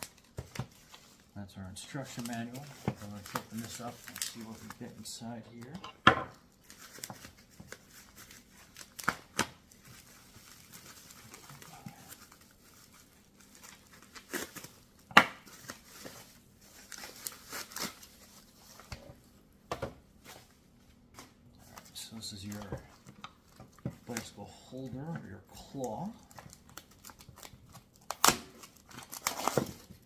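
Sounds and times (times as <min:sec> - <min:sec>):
packaging crinkling and tearing: 0:00.0 - 0:05.8, 0:06.4 - 0:19.0, 0:21.2 - 0:24.9, 0:25.6 - 0:30.0.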